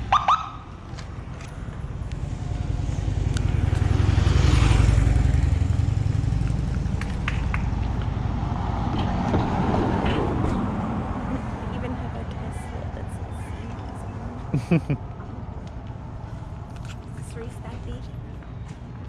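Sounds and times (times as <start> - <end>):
vehicle passing by: 0.0 - 19.0.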